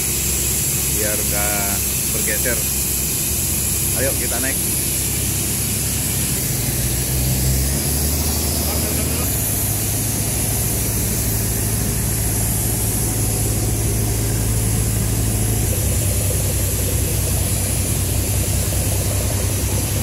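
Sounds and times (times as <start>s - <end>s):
boat diesel engine droning: 0.0s - 20.0s.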